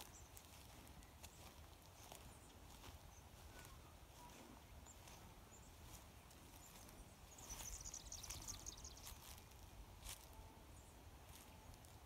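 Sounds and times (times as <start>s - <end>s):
footsteps in dry grass: 0.0s - 12.0s
small bird chirping: 0.0s - 12.0s.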